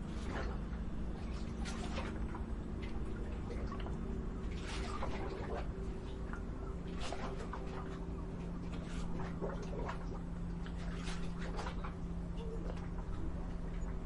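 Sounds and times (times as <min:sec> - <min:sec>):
low rumble and hum: 0:00.0 - 0:14.0.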